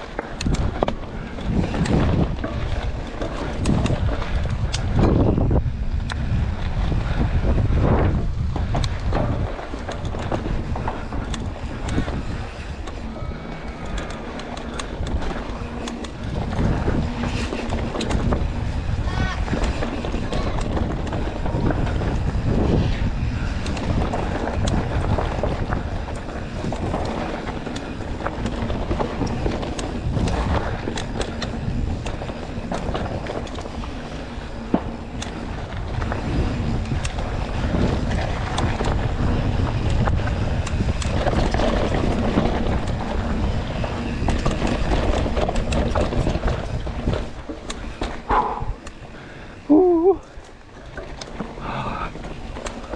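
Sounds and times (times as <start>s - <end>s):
bike knocks and rattles: 0.0s - 49.6s
bike tyres rumbling: 0.0s - 52.9s
wind buffeting microphone: 0.0s - 52.9s.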